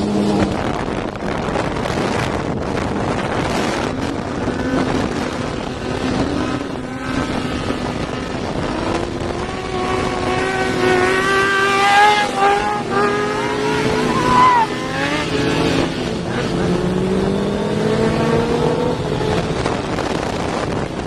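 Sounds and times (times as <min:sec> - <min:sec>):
motorcycle engine accelerating: 0:00.0 - 0:21.0
wind noise: 0:00.0 - 0:21.0.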